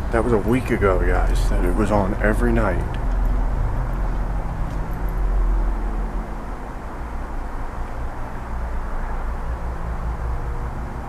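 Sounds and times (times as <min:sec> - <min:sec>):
distant traffic rumble: 0:00.0 - 0:11.0
low engine hum: 0:00.0 - 0:11.0.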